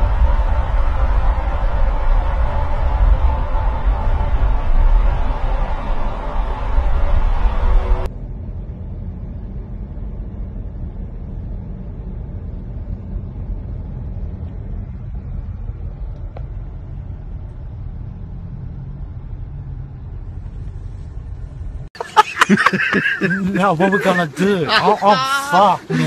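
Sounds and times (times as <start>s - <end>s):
car interior road and engine noise: 0.0s - 26.0s.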